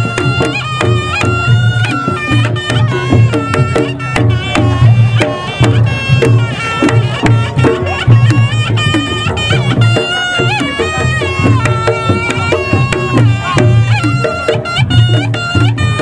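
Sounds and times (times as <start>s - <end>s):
hand drums beating: 0.0s - 16.0s
reed trumpet melody: 0.0s - 16.0s.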